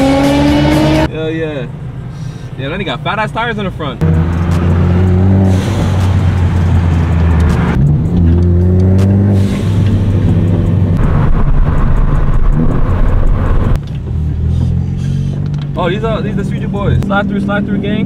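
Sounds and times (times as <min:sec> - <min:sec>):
car engine droning: 0:00.0 - 0:02.5, 0:03.2 - 0:18.0.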